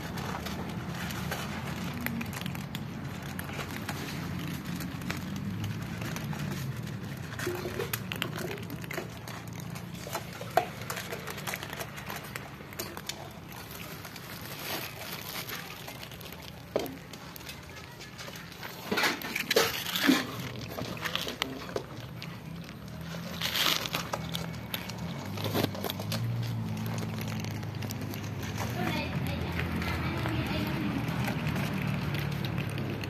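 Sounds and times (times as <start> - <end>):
cats crunching dry kibble: 0.0 - 33.0.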